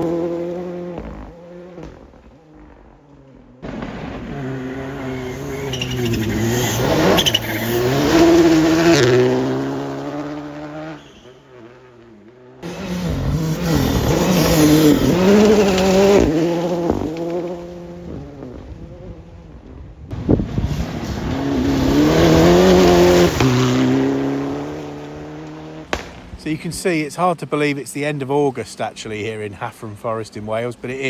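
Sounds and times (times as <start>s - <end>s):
rally cars driving past: 0.0s - 31.0s.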